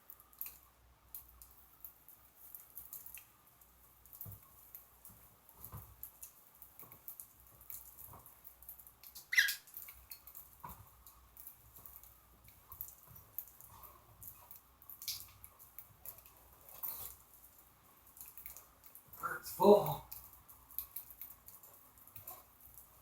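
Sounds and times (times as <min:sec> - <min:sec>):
birds pecking and cracking seed: 0:00.0 - 0:19.1, 0:20.0 - 0:23.0.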